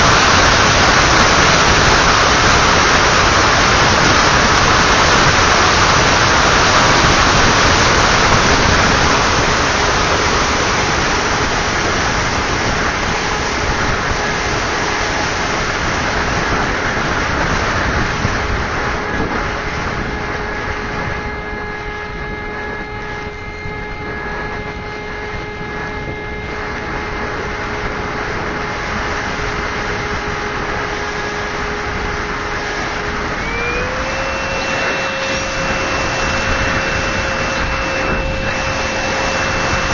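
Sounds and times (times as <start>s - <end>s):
motor and propeller whine: 0.0s - 39.9s
wind rush: 0.0s - 39.9s.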